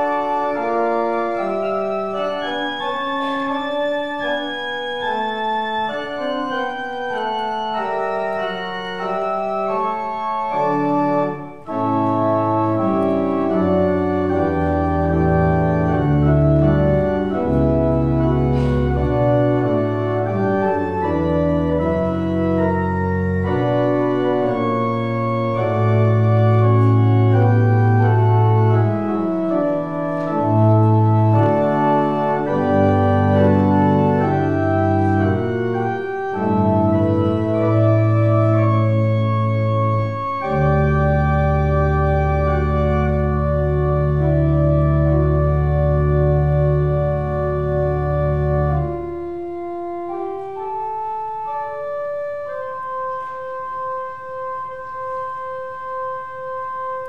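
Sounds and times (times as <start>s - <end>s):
church organ chords: 0.0s - 57.0s
deep organ bass notes: 0.0s - 57.0s.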